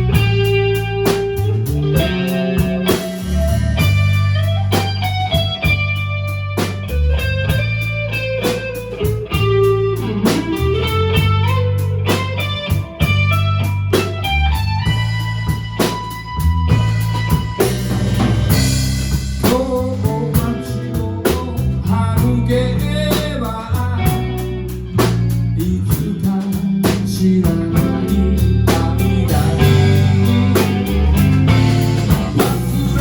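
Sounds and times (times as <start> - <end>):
bass line: 0.0 - 33.0
electric guitar notes with bends: 0.0 - 33.0
steady drum beat: 0.0 - 33.0.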